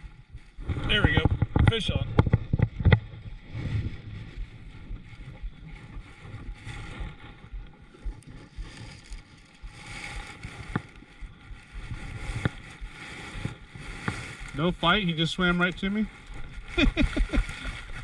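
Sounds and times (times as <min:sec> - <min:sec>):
wind on microphone: 0:00.0 - 0:14.9, 0:16.0 - 0:18.0
water moving around kayak: 0:00.0 - 0:18.0.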